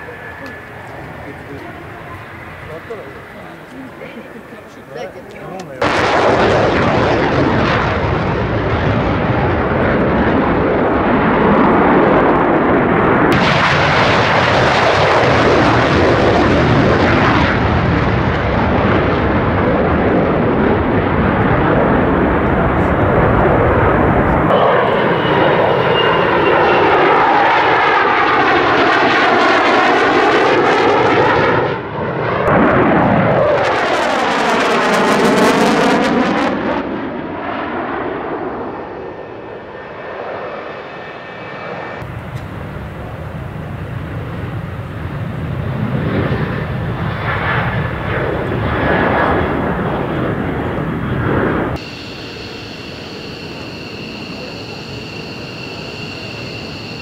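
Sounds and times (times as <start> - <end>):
military jet flyby: 0.0 - 57.0.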